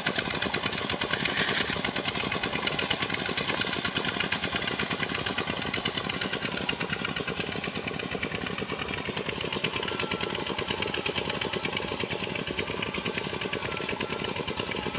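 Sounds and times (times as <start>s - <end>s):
pump engine running: 0.0s - 14.9s.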